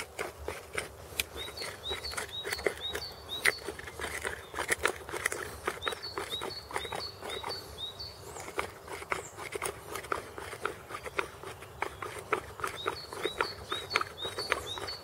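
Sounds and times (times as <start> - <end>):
flint scraping against antler: 0.0 - 15.0
bird chirping: 0.7 - 15.0.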